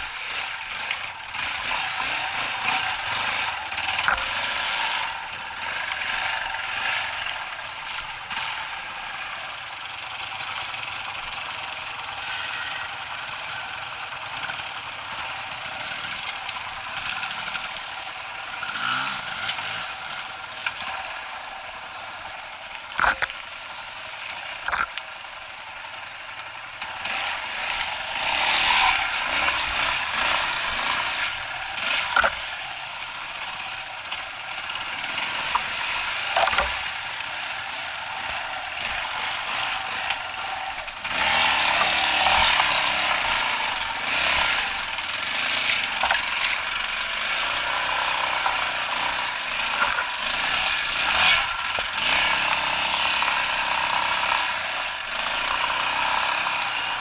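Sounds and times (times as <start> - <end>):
motorcycle engine running: 0.0 - 57.0
motorcycle rattling and knocking: 0.0 - 57.0.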